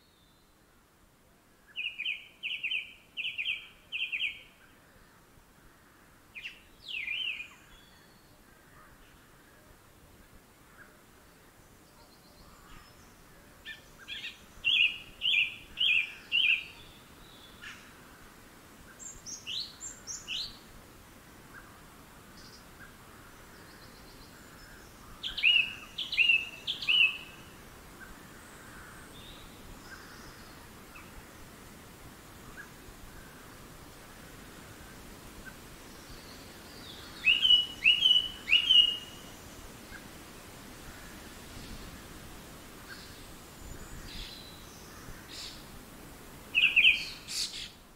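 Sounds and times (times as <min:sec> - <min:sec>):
songbird singing: 0:00.0 - 0:00.9, 0:01.5 - 0:47.9
faint outdoor hiss: 0:00.0 - 0:47.9.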